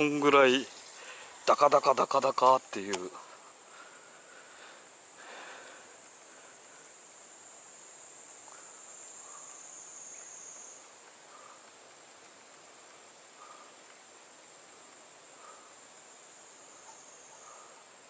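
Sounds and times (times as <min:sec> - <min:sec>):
faint hiss: 0:00.0 - 0:18.0
insects chorus: 0:00.0 - 0:18.0.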